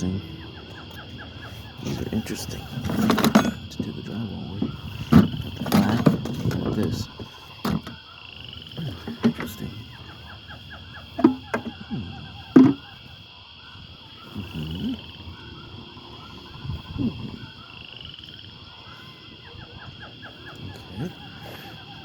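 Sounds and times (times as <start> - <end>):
chorus of small rapid calls: 0.0 - 22.0.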